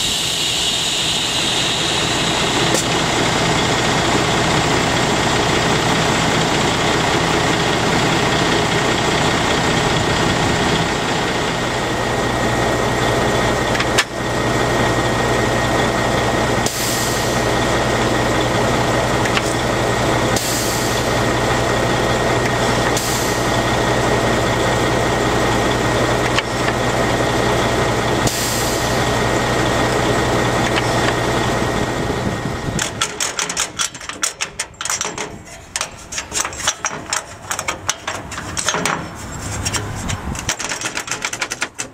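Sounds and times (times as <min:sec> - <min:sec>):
truck diesel engine idling: 0:00.0 - 0:40.7.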